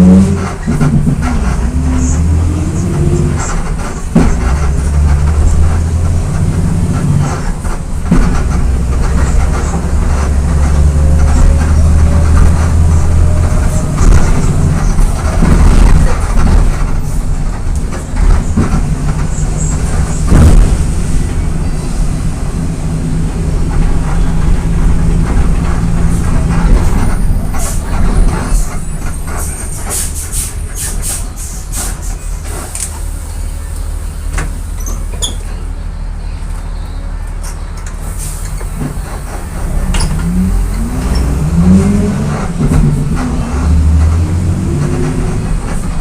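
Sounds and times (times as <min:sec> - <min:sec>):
bus body rattling and clicking: 0:00.0 - 0:46.0
diesel bus engine running: 0:00.0 - 0:46.0.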